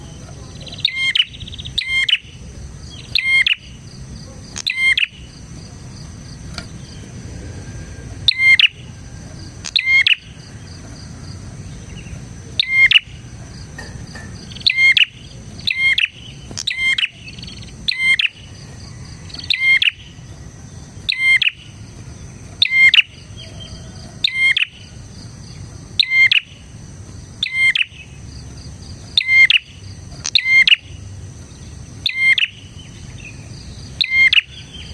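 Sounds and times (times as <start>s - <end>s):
bird chirping: 0.0s - 34.9s
faint insect whine: 0.0s - 34.9s.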